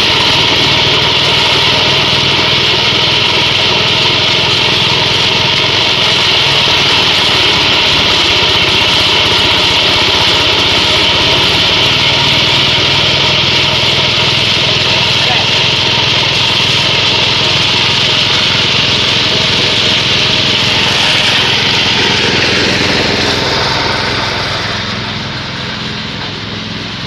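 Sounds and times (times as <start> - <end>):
chopper machine running: 0.0 - 27.0.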